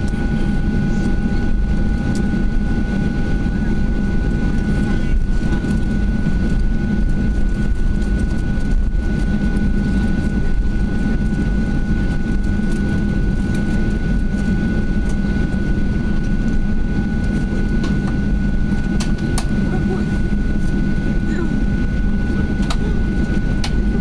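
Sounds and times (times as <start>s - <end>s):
jet engines idling rumble: 0.0s - 24.0s.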